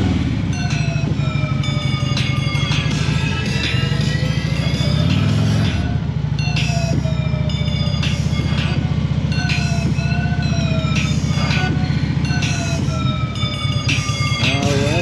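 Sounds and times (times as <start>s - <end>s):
motorcycle engine rumbling: 0.0s - 15.0s
music with sliding high notes: 0.0s - 15.0s.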